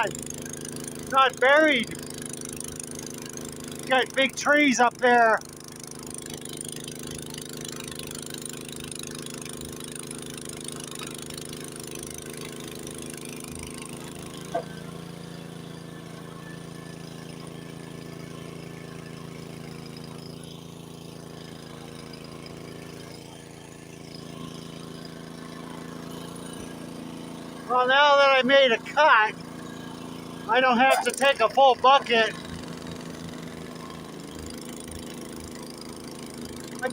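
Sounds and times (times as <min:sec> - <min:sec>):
snowblower engine running: 0:00.0 - 0:36.9.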